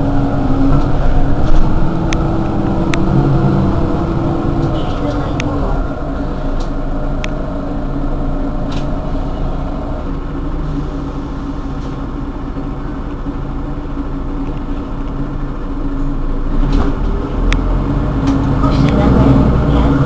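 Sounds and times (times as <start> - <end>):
bus diesel engine idling: 0.0 - 20.0
higher engine hum: 0.0 - 20.0.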